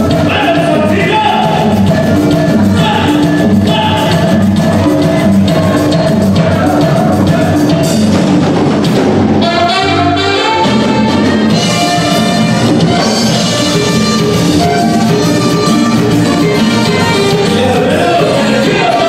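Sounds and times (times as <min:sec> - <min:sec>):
dance band with horn melody: 0:00.0 - 0:19.0.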